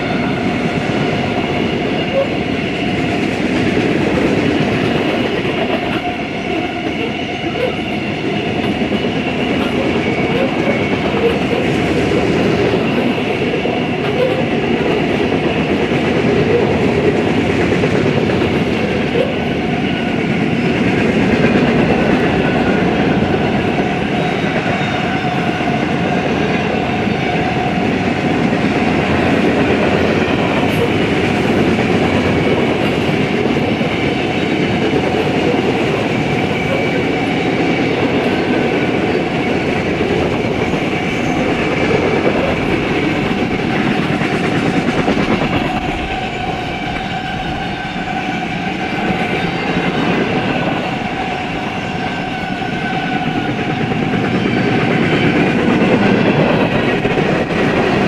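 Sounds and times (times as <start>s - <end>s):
freight train rolling past: 0.0s - 58.0s
steel wheels clacking over rails: 0.0s - 58.0s.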